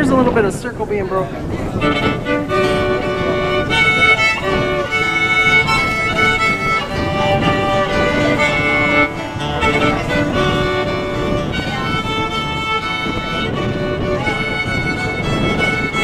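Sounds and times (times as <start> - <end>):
fiddle melody: 0.0 - 16.0.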